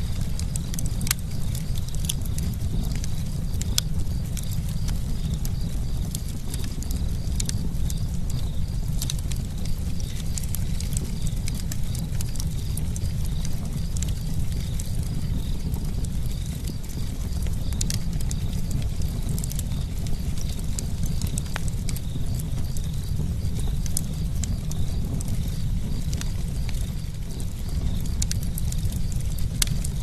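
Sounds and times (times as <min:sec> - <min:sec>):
low rumble of flames: 0:00.0 - 0:30.0
wood crackles and pops: 0:00.0 - 0:30.0.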